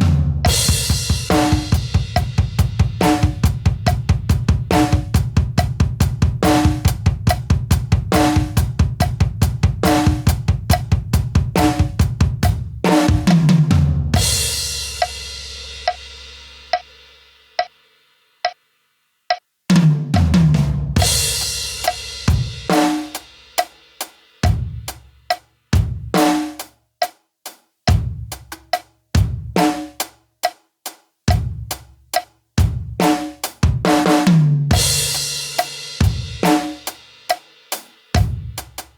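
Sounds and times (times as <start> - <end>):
drum kit playing: 0.0 - 17.7, 19.7 - 27.2, 27.9 - 30.2, 31.3 - 38.9.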